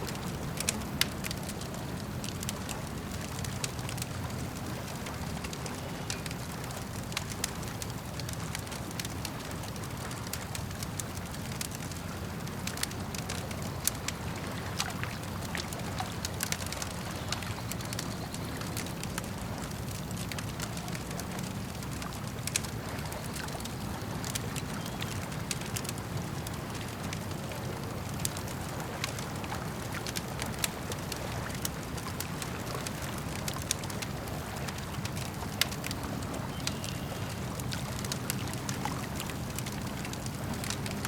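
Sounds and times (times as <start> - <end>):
campfire crackling: 0.0 - 41.0
lake water lapping: 0.0 - 41.0.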